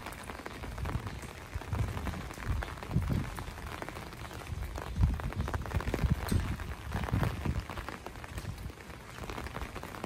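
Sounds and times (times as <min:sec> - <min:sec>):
raindrops clicking: 0:00.0 - 0:10.0
steady rain hiss: 0:00.0 - 0:10.0.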